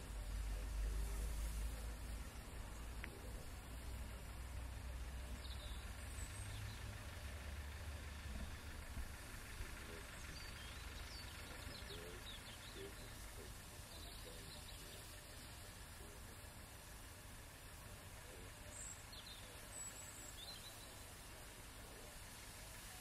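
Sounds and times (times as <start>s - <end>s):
small birds chirping: 0.0s - 23.0s
steam locomotive rumbling: 0.0s - 23.0s.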